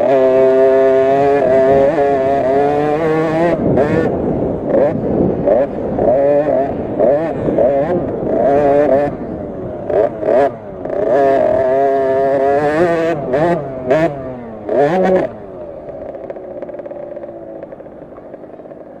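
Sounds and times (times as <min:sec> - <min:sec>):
minibike engine revving: 0:00.0 - 0:19.0.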